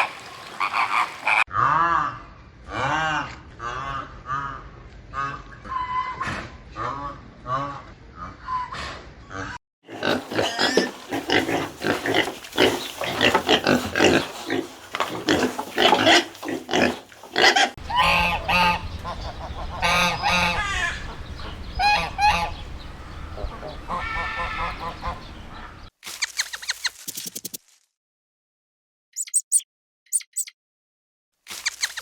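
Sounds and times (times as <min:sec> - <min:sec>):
farm animals calling: 0:00.0 - 0:25.9.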